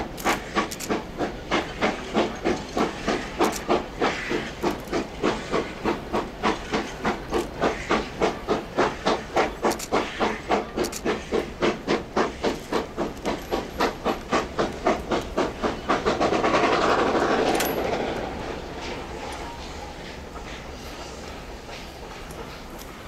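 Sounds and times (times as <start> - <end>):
loud hiss of steam: 0.0 - 23.0
steam locomotive exhaust beats: 0.0 - 23.0.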